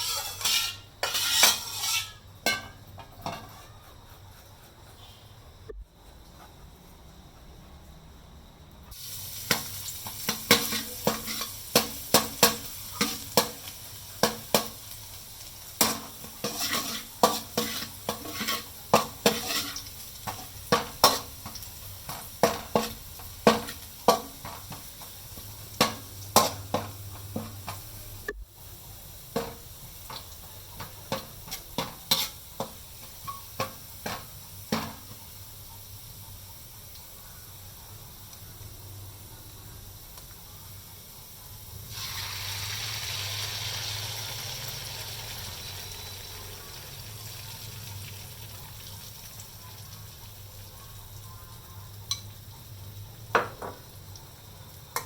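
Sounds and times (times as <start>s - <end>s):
food sizzling in hot oil: 0.0s - 4.1s, 8.9s - 55.0s.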